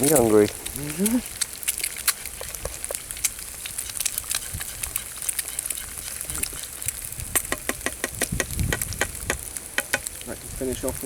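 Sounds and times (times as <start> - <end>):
egg sizzling in a pan: 0.0 - 11.0
fat crackling and popping: 0.0 - 11.0.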